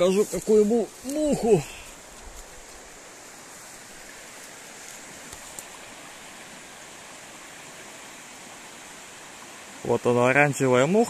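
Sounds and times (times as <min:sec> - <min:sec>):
river flowing over stones: 0:00.0 - 0:11.0.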